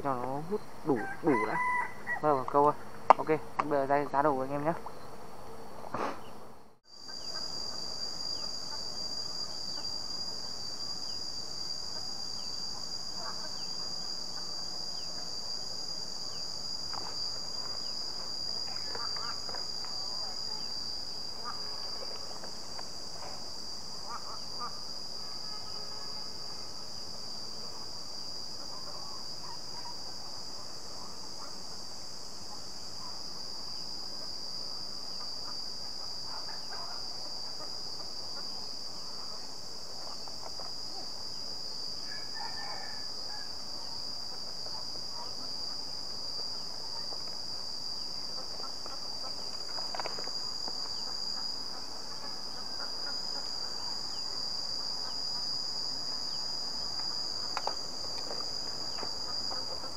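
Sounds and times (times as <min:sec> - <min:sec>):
insects chirring drone: 0:00.0 - 0:59.9.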